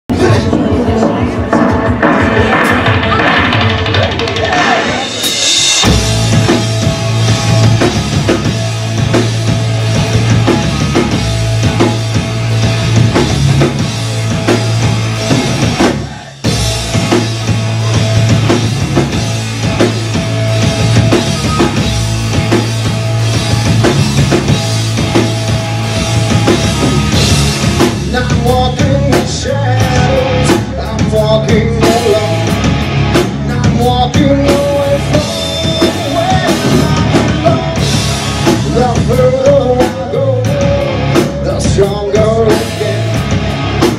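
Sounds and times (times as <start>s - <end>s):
bass guitar: 0.0s - 43.9s
drum kit: 0.0s - 43.9s
electric guitar: 0.1s - 43.9s.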